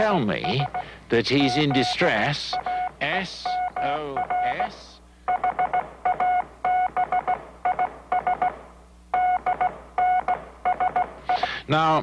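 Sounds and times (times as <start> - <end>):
morse code beeps: 0.0 - 11.6.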